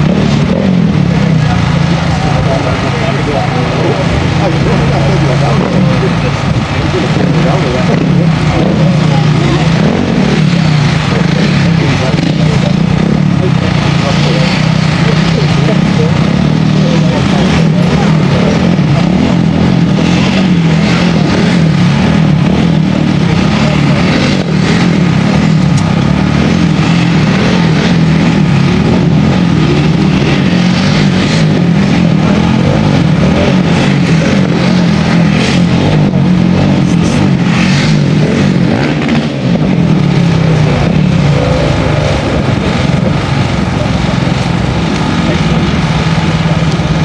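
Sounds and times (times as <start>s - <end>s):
motorcycle engine running hard: 0.0s - 47.0s.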